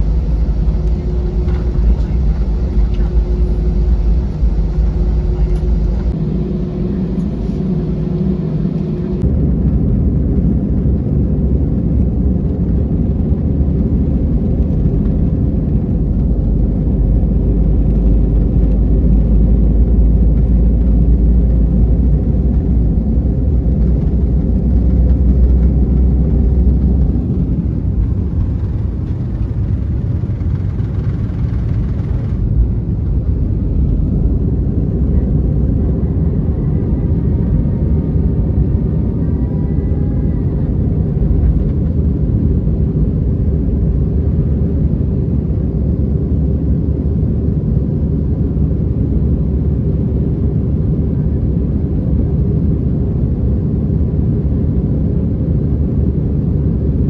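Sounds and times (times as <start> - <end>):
engine and airflow drone: 0.0 - 57.0
faint whine: 0.0 - 57.0
jet engines at takeoff power: 0.0 - 57.0
runway rumble: 0.0 - 57.0.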